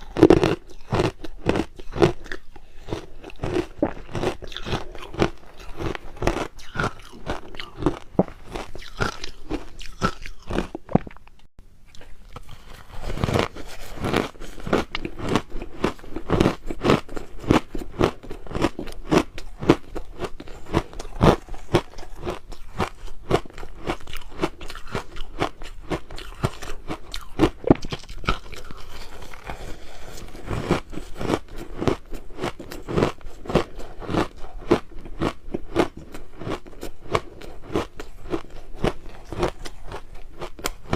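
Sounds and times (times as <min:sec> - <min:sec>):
crushed ice being chewed: 0:00.0 - 0:11.2, 0:11.9 - 0:40.9.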